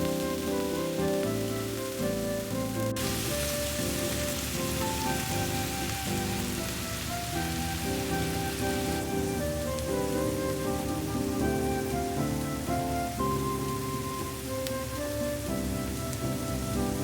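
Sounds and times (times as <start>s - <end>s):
background music: 0.0s - 17.0s
food sizzling in a frying pan: 0.0s - 17.0s.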